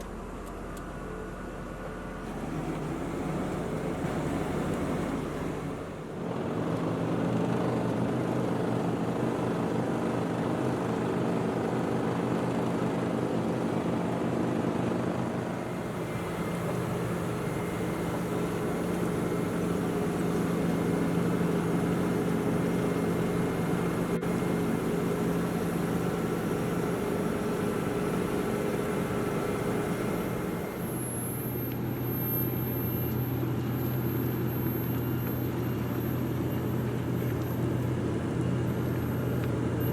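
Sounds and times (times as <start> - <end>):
paving machinery engine hum: 0.0 - 39.9.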